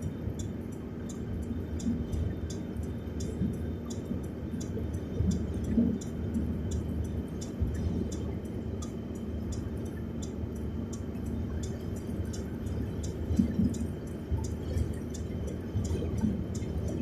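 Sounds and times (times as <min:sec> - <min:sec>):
low rumble of wind: 0:00.0 - 0:17.0
moving car rumble: 0:00.0 - 0:17.0.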